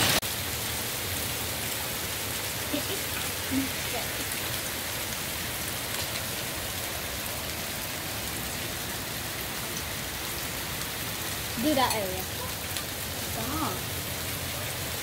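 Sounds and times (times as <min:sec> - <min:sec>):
hail hissing on ground: 0:00.0 - 0:15.0.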